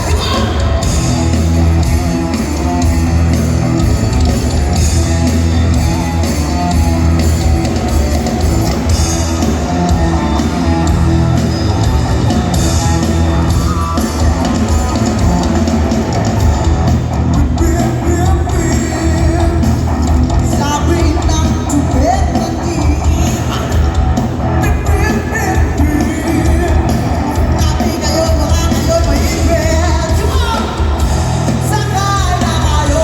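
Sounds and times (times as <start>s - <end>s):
drum kit: 0.0s - 33.0s
guitars: 0.0s - 33.0s.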